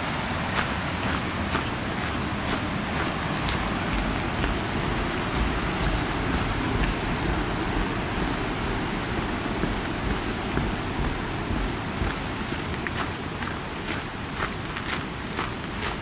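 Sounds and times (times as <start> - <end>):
mountain stream rushing: 0.0 - 16.0
footsteps on a path: 0.6 - 16.0.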